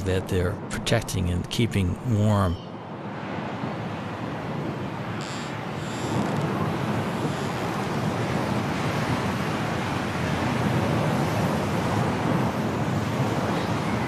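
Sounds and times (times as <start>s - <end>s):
strong storm wind blowing: 0.0s - 14.0s.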